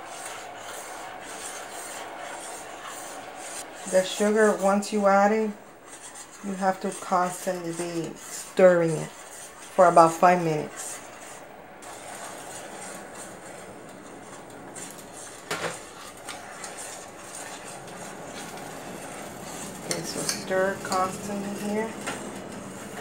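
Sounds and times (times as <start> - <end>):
spoon stirring in saucepan: 0.0 - 23.0.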